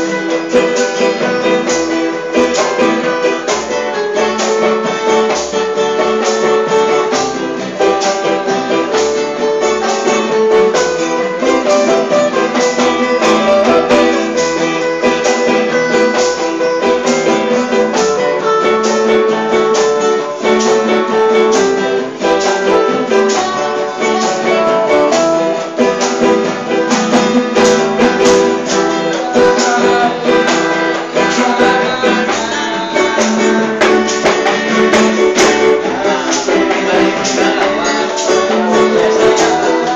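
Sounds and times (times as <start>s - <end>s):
band music with strummed guitar: 0.0s - 39.9s.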